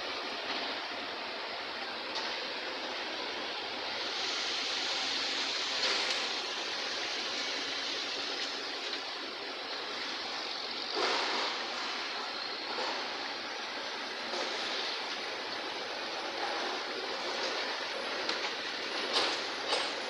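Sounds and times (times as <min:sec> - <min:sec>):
heavy diesel machinery roar: 0:00.0 - 0:20.0
tipper truck moving slowly: 0:00.0 - 0:20.0.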